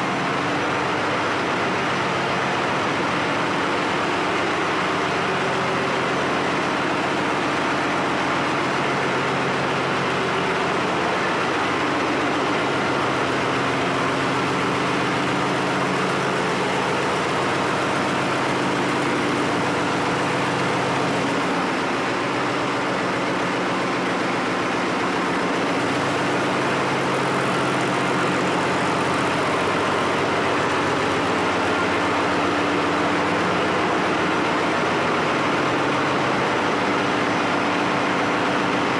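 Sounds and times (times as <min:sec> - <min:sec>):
engine room machinery drone: 0:00.0 - 0:38.9.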